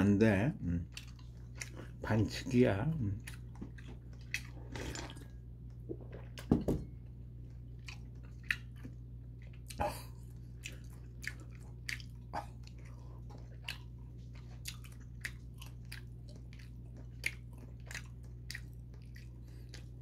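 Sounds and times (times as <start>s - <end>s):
mouth chewing with wet clicks: 0.8s - 20.0s.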